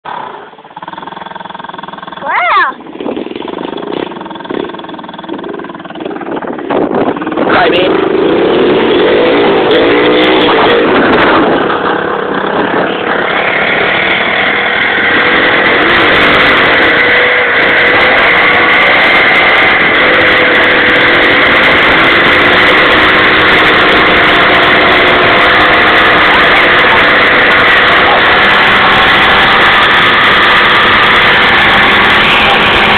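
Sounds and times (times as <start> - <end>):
wheel spinning in dirt: 0.0 - 32.9
motorcycle engine revving: 0.1 - 32.9.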